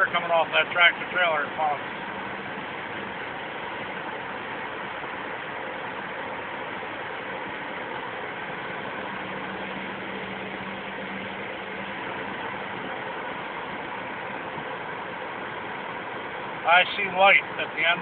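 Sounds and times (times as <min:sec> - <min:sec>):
car tyre and engine noise: 0:00.0 - 0:18.0.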